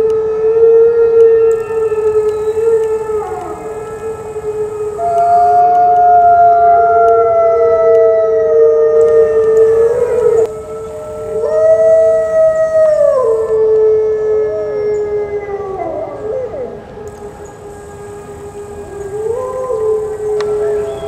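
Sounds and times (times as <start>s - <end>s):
wolves howling: 0.0s - 21.0s.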